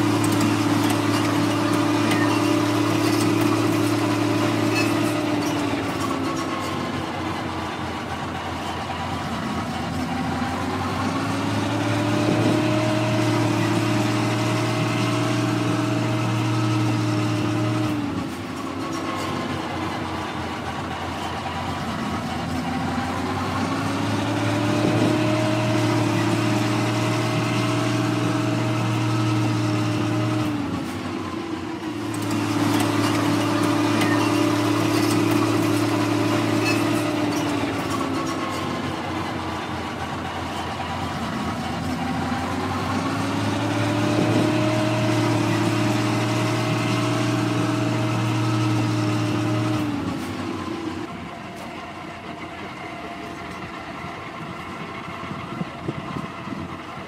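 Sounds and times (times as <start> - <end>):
tank engine idling and revving: 0.0 - 57.0.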